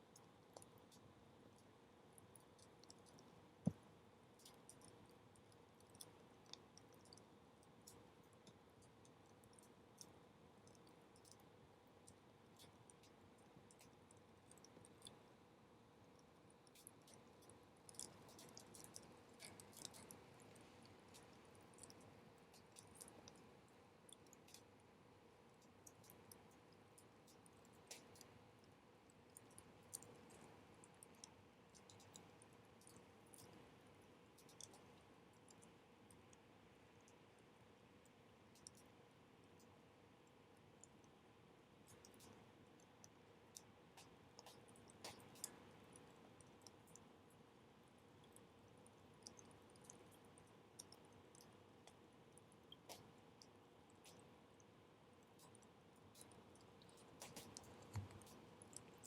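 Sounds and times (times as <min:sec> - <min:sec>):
faint steady hum: 0:00.0 - 0:59.0
soft steady hiss: 0:00.0 - 0:59.0.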